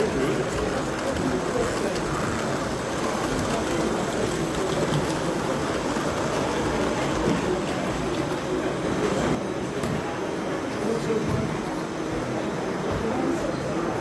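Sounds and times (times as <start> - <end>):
busy exhibition hall noise: 0.0 - 14.0.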